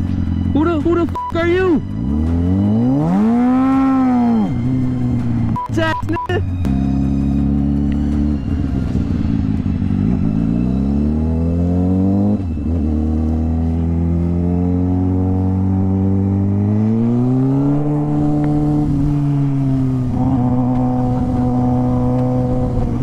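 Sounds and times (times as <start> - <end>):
motorcycle engine pulling away: 1.9 - 5.5, 6.6 - 23.0.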